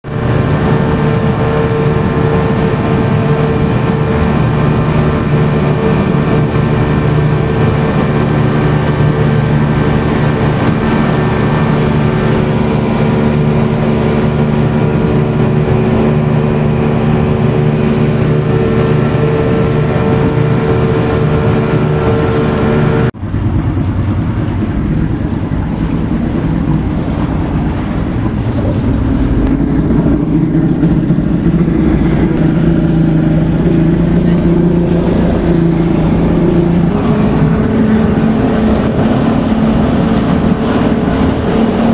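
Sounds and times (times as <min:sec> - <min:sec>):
rough noisy engine: 0:00.0 - 0:41.9
vehicle engine drone: 0:00.0 - 0:41.9.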